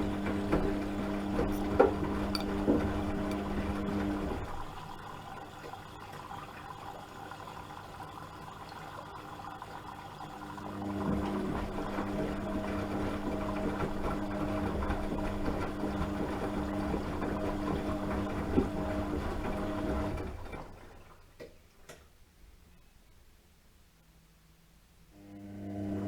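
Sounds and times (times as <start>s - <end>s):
washing machine motor humming: 0.0s - 21.4s, 25.2s - 26.0s.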